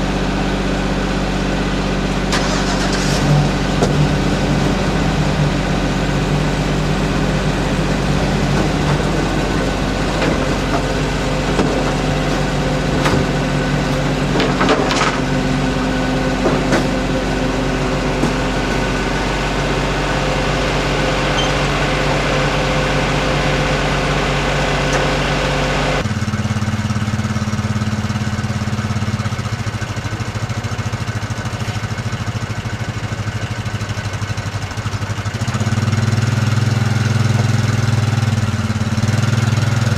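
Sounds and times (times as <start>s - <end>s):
engines idling: 0.0s - 39.9s.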